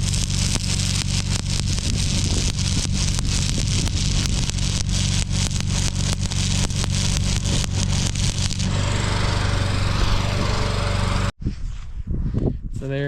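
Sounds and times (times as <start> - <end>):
welding arc crackling: 0.0 - 11.3
steady low hum: 0.0 - 11.4.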